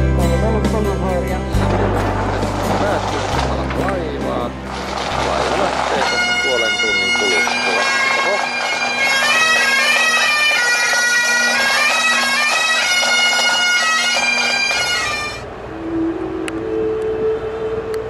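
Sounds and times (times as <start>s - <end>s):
bagpipe drone: 1.6s - 17.9s
bagpipe chanter melody: 2.1s - 17.5s.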